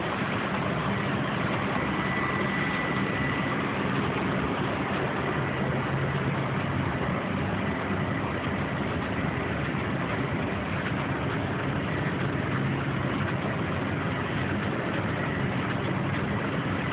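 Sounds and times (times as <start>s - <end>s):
printing press running: 0.0s - 16.9s.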